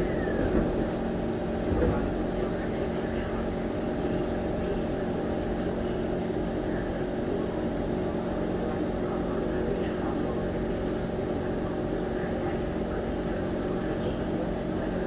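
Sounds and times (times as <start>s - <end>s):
train equipment and air-conditioning hum: 0.0s - 15.0s.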